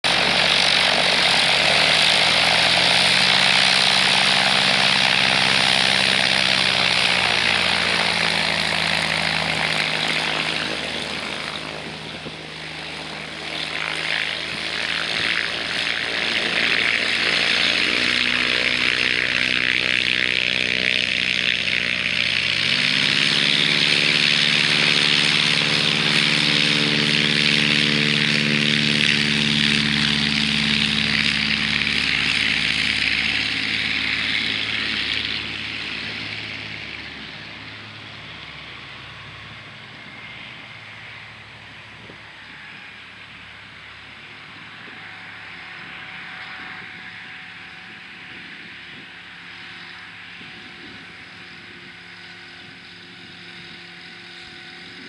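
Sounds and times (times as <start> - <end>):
light aircraft engine and propeller: 0.0 - 55.0.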